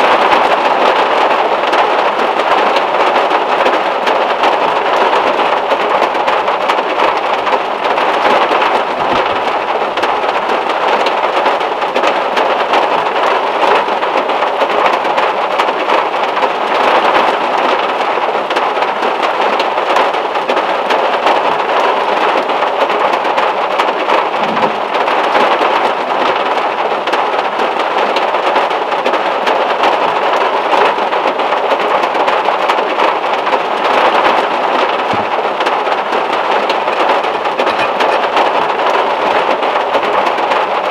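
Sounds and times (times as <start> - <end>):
heavy rain on a metal car roof: 0.0 - 40.9.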